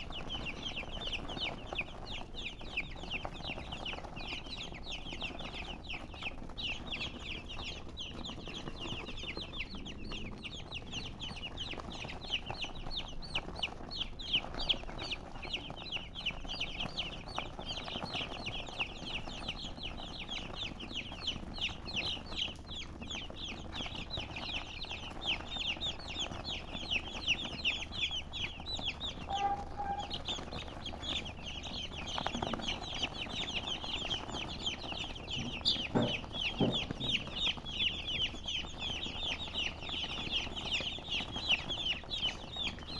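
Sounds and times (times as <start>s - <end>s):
chickens chirping: 0.0s - 42.9s.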